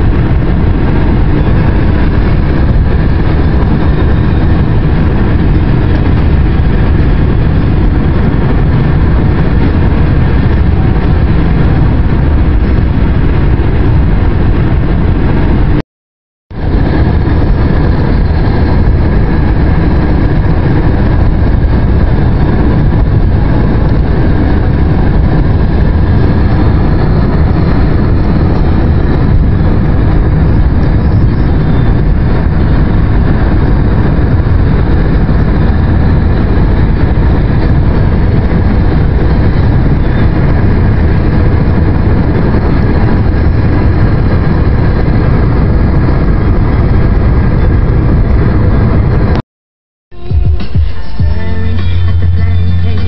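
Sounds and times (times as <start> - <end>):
car road and engine rumble: 0.0 - 15.8, 16.5 - 49.4, 51.2 - 53.0.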